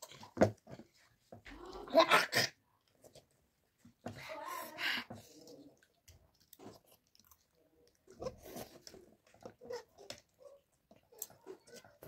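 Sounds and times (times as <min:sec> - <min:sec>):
children chewing: 0:00.0 - 0:12.0.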